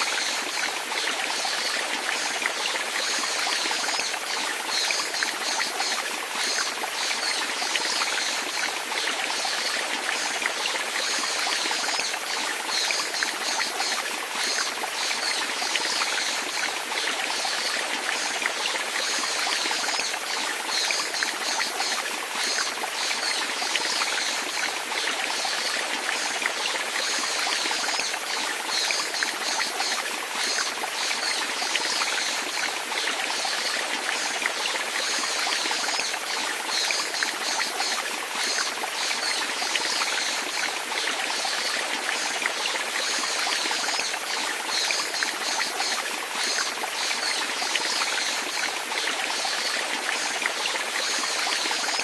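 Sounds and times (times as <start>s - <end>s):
water trickling and splashing: 0.0s - 52.0s.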